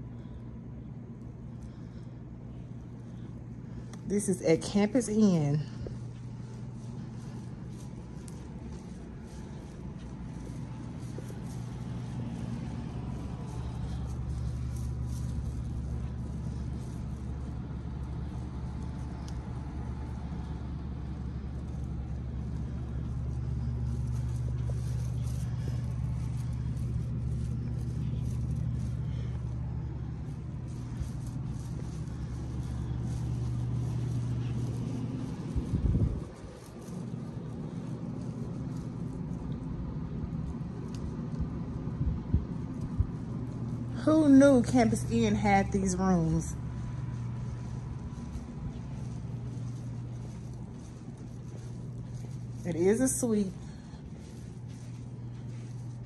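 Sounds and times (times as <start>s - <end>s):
low mechanical drone: 0.0s - 56.0s.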